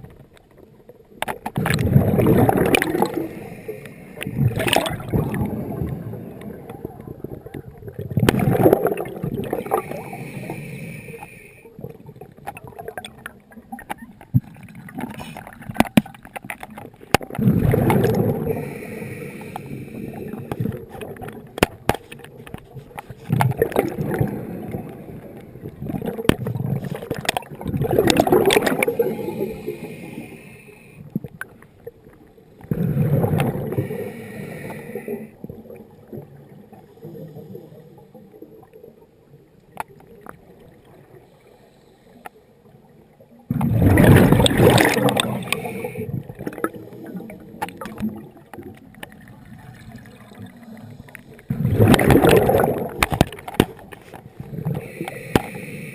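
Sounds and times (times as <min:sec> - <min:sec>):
exhaled bubbles underwater: 0:00.0 - 0:41.4, 0:42.6 - 0:55.9.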